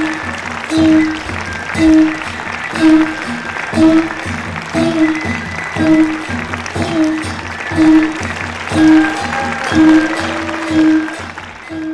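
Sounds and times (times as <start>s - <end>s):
audience applause: 0.0s - 11.9s.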